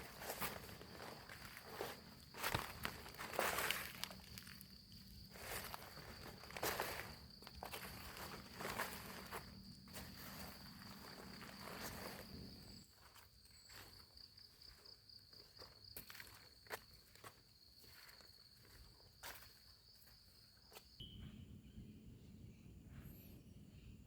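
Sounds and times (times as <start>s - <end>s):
footsteps on leaf litter and twigs: 0.0s - 20.2s.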